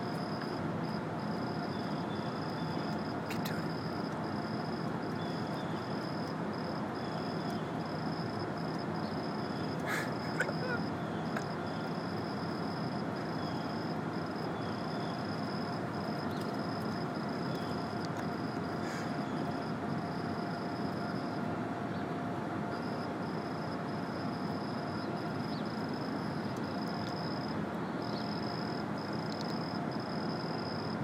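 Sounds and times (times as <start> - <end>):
faint pulsing high-pitched tone: 0.0 - 31.0
steady background noise: 0.0 - 31.0.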